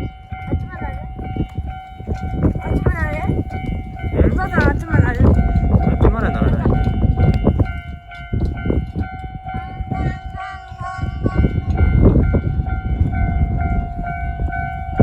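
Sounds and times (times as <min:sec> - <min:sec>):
level crossing warning bell: 0:00.0 - 0:15.0
wind buffeting microphone: 0:00.0 - 0:15.0.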